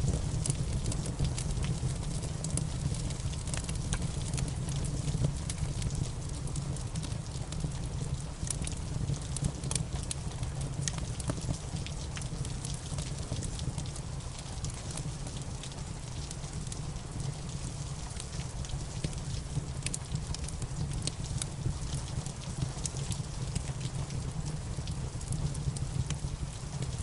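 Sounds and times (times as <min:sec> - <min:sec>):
steady rain: 0:00.0 - 0:27.0
wood fire crackling and popping: 0:00.0 - 0:27.0.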